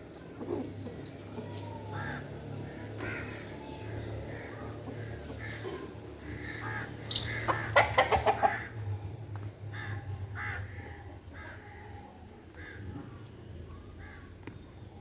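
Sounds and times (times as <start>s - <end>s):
farmyard bird calls: 0.0s - 15.0s.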